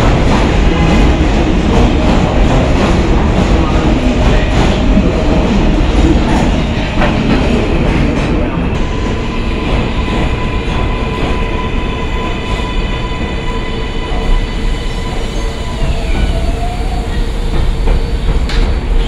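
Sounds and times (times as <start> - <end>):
subway train wheels clacking: 0.0 - 19.0
train rumble: 0.0 - 19.0.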